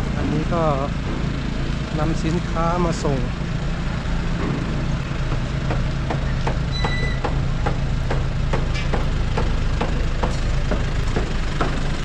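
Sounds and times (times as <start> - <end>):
pickup truck engine idling: 0.0 - 12.0.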